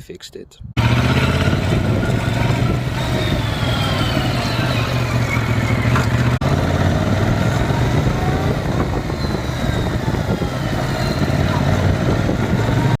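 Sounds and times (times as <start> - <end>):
motorcycle engine humming: 0.8 - 13.0.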